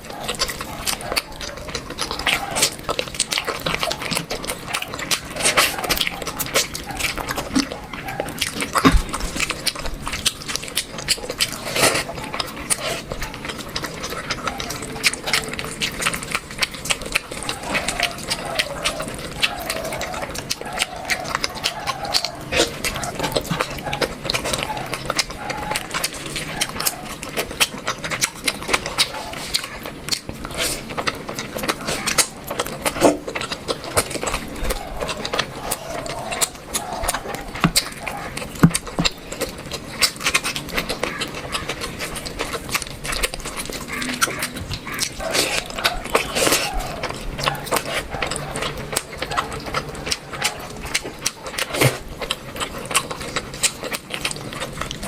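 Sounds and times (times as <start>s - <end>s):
person chewing and lip smacking: 0.0s - 55.0s.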